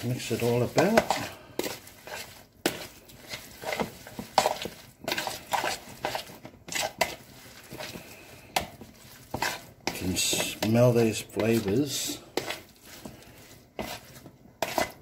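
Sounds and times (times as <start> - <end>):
wet squishing of meat: 0.0 - 15.0.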